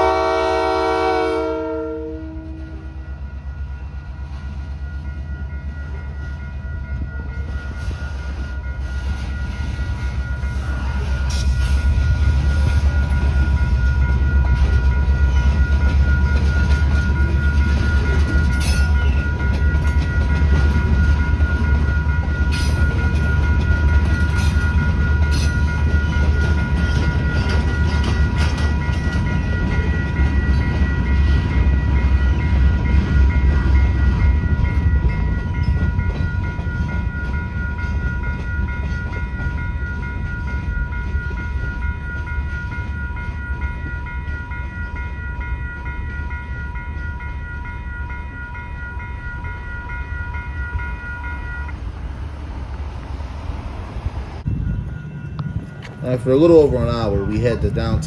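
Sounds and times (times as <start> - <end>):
crossing bell ringing: 0.0 - 58.0
freight train rumble: 0.0 - 58.0.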